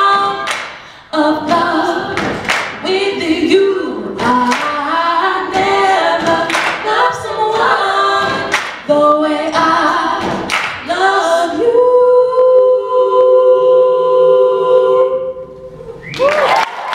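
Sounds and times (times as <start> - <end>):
a cappella group singing harmony: 0.0 - 16.0.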